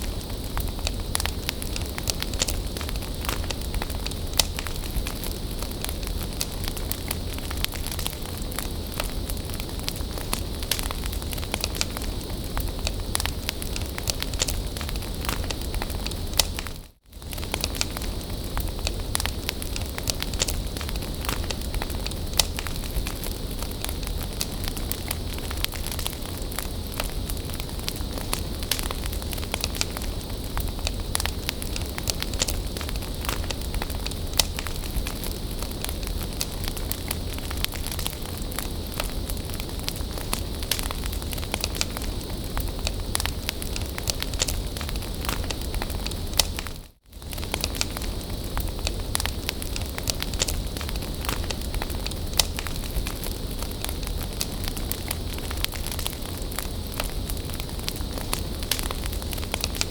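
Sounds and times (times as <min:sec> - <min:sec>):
bonfire hissing and crackling: 0:00.0 - 0:59.9.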